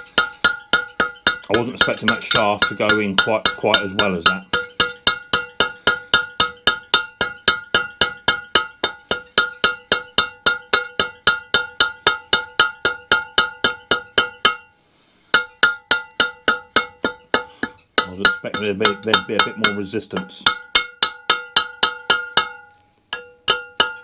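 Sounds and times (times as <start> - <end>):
mallet tapping steel shaft: 0.0 - 14.7, 15.3 - 24.0.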